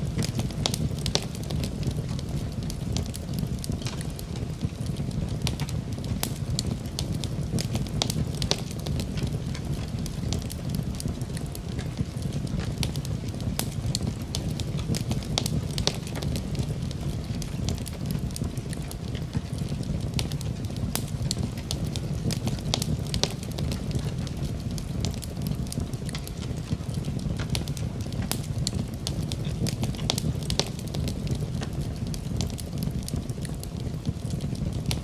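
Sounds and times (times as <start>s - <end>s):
rumble of flames: 0.0s - 35.0s
wood crackling and popping: 0.0s - 35.0s.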